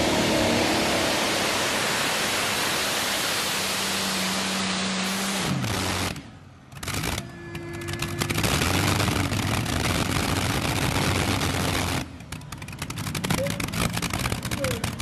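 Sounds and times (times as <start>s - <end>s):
exhaust crackling: 0.0s - 15.0s
tractor engines running hard: 0.0s - 15.0s.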